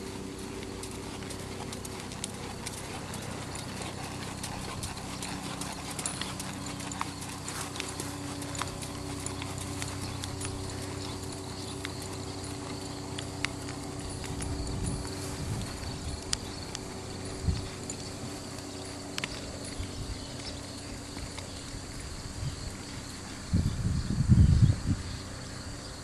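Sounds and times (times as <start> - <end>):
horse hoofbeats on dirt: 0.0 - 23.5
steady low hum: 0.0 - 26.0.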